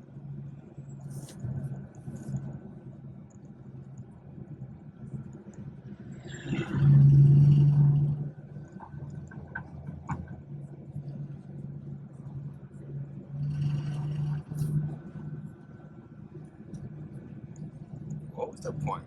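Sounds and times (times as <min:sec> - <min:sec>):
car engine drone from cabin: 0:00.0 - 0:19.0.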